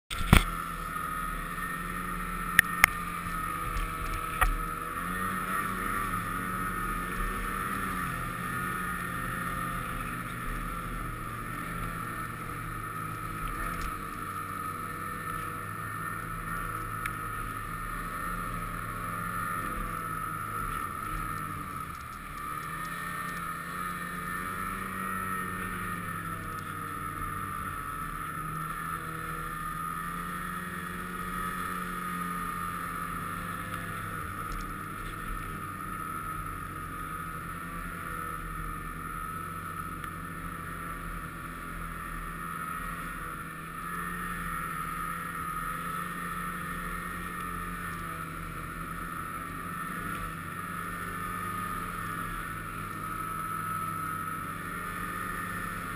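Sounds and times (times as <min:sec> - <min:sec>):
snowmobile engine running: 0:00.1 - 0:55.9.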